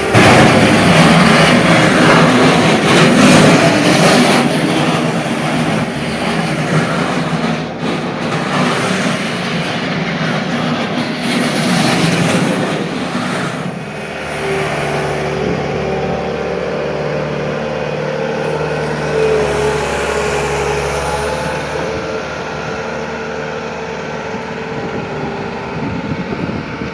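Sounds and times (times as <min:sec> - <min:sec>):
skid steer diesel engine running: 0:00.0 - 0:26.9.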